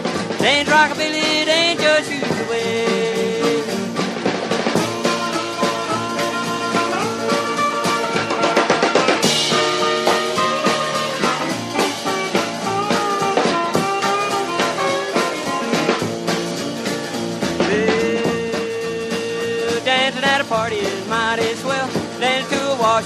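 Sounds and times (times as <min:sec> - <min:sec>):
drum kit beat: 0:00.0 - 0:23.0
rockabilly instrumental music: 0:00.0 - 0:23.0.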